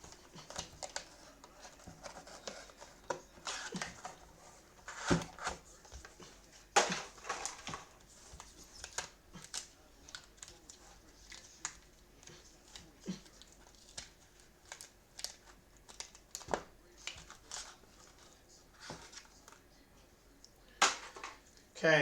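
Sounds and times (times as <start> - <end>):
trading cards and packaging crinkling: 0.0 - 19.8.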